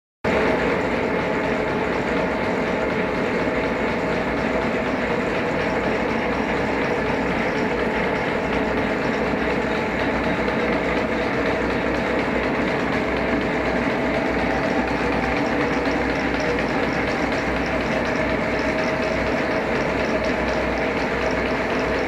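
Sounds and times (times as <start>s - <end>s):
constant drive tones: 0.3s - 22.0s
milling machine drone: 0.3s - 22.0s.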